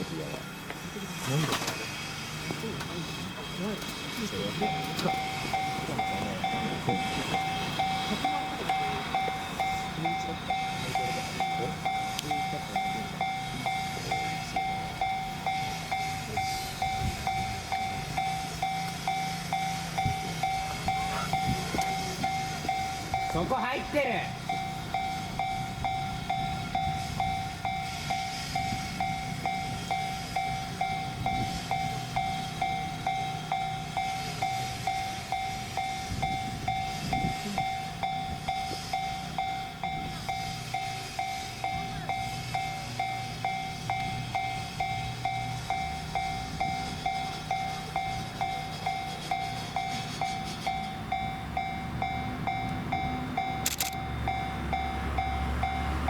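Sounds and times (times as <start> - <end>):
passing train rumble: 0.0 - 56.0
level crossing bell ringing: 4.6 - 56.0.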